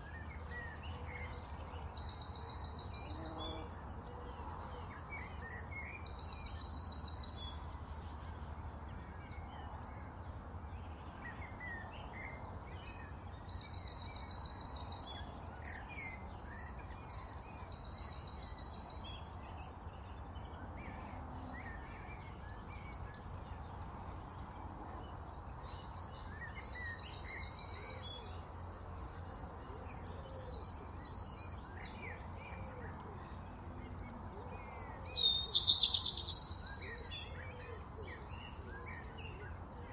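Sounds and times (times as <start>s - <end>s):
birds chirping softly: 0.0s - 39.9s.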